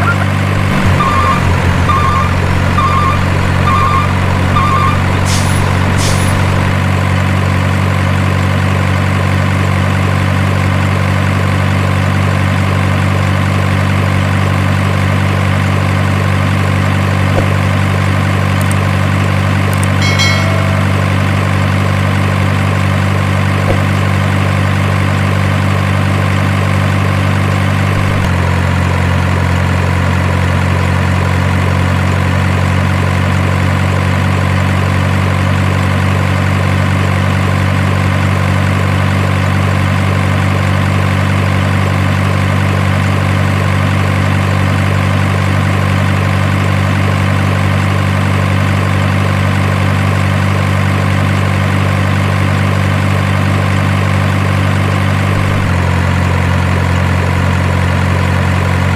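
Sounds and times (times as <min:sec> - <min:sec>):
loud low engine idling: 0:00.0 - 0:58.9.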